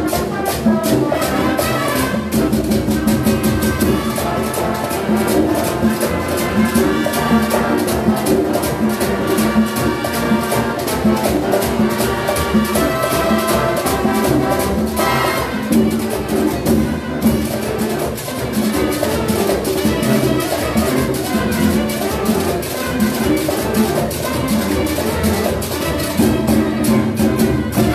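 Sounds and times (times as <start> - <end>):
brass section: 0.0 - 27.9
busy percussion rhythm: 0.0 - 27.9.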